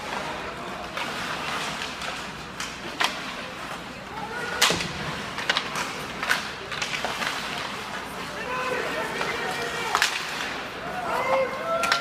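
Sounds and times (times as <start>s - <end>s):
hockey sticks and puck cracking: 0.0s - 12.0s
murmur of voices: 0.0s - 12.0s.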